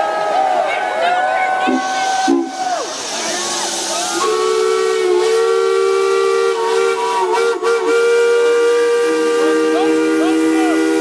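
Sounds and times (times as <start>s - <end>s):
steam whistles blowing a chord: 1.5s - 11.0s
whistle notes sliding in pitch: 1.6s - 11.0s.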